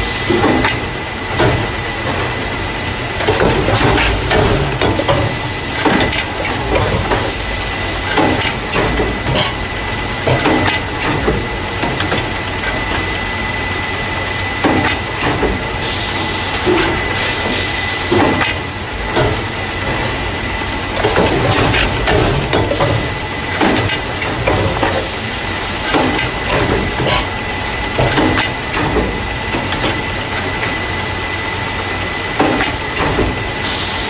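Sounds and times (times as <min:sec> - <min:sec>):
machine clacks and knocks: 0:00.0 - 0:31.4, 0:32.3 - 0:33.8
packing machine running: 0:00.0 - 0:34.0.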